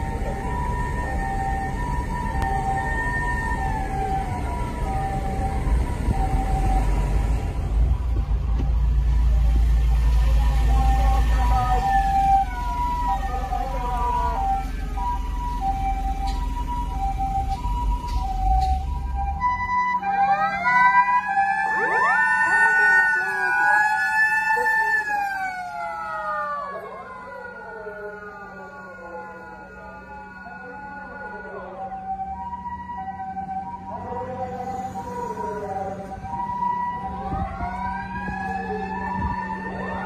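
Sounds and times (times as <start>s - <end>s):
fire engine sirens wailing: 0.0s - 40.0s
traffic rumble: 0.0s - 40.0s
two-tone ambulance siren: 0.0s - 40.0s.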